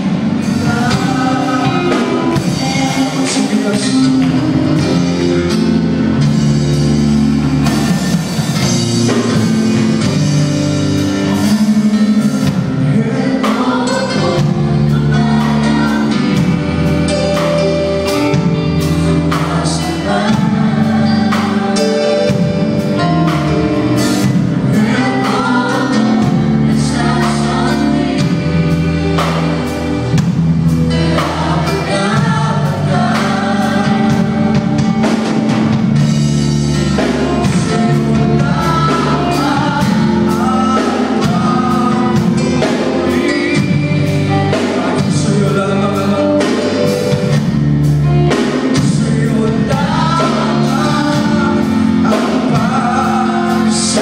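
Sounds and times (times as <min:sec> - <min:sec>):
drum kit: 0:00.0 - 0:54.0
gospel band playing: 0:00.0 - 0:54.0
group of singers: 0:00.0 - 0:54.0.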